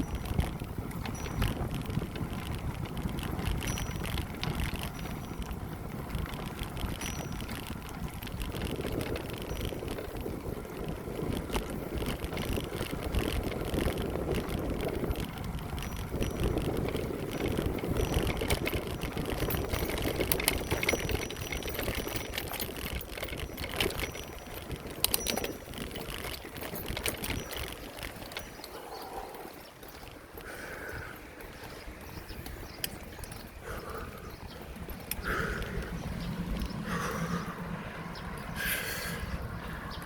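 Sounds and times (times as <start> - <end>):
tyre rumble on path: 0.0 - 38.8
sharp clicks and rattles: 0.0 - 40.0
wind buffeting microphone: 0.0 - 40.0.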